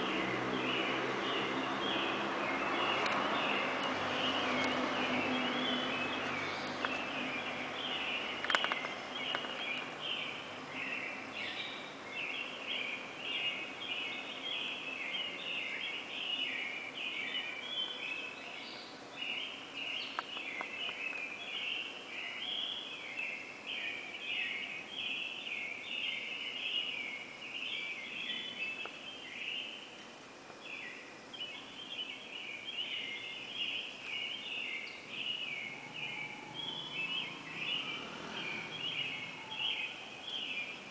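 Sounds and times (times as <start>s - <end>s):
birds chirping in chorus: 0.0s - 40.9s.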